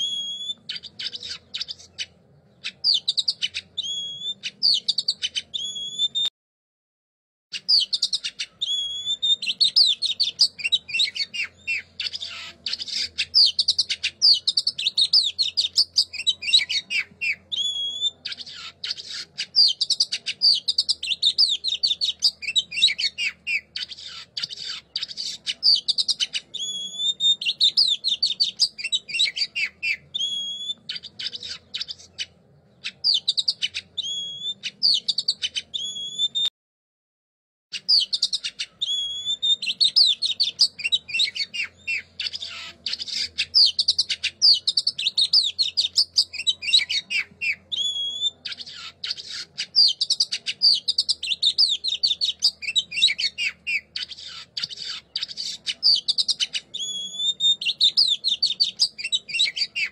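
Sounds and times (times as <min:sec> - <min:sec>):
songbird singing: 0:00.0 - 0:06.3, 0:07.5 - 0:36.5, 0:37.7 - 0:59.9.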